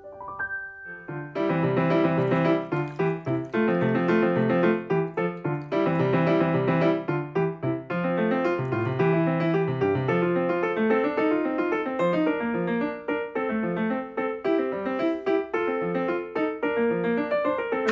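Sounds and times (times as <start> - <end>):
piano music: 0.0 - 17.9.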